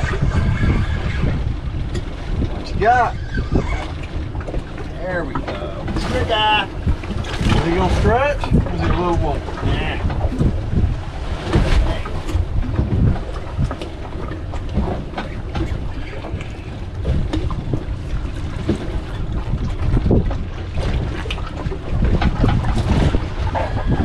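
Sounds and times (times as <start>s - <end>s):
wind gusting across microphone: 0.0s - 24.0s.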